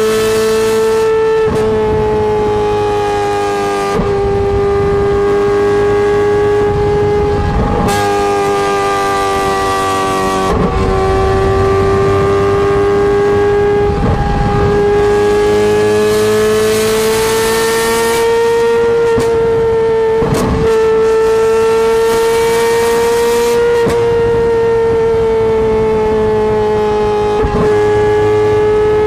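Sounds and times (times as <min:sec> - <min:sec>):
car engine at high revs: 0:00.0 - 0:29.0.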